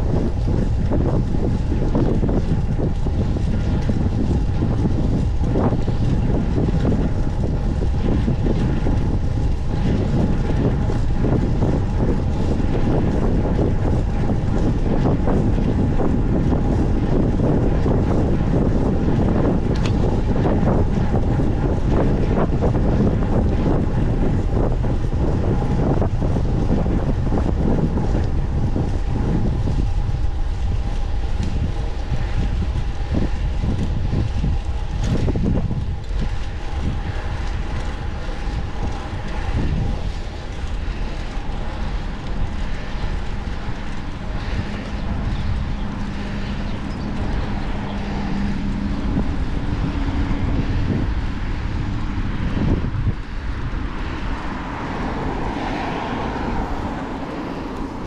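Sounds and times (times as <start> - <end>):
motor traffic: 0.0 - 58.0
steady engine hum: 0.0 - 58.0
wind rushing over microphone: 0.0 - 58.0.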